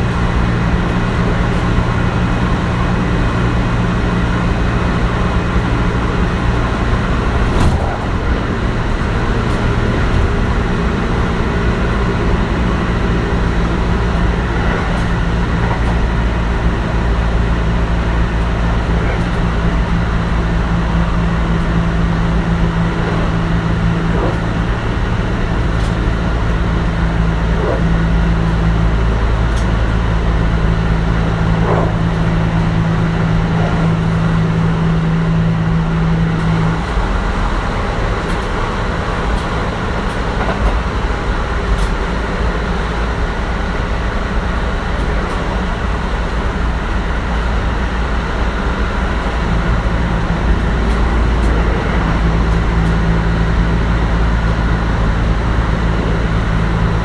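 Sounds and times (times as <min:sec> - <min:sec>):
low hum: 0:00.0 - 0:57.0
train motors and wheels rumbling: 0:00.0 - 0:57.0.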